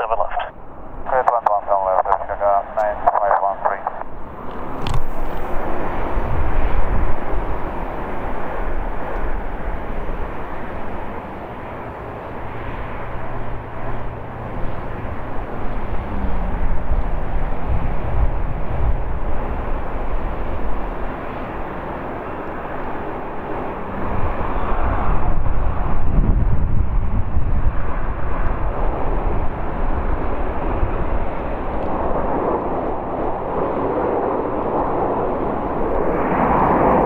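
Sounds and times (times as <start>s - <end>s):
jet engines rumbling and hissing: 0.0s - 37.0s.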